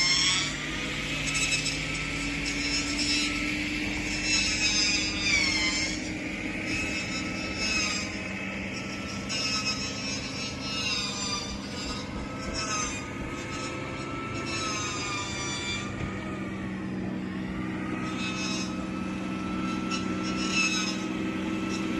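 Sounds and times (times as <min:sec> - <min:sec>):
motorboat engine humming: 0:00.0 - 0:21.9
wavering whine: 0:00.0 - 0:21.9.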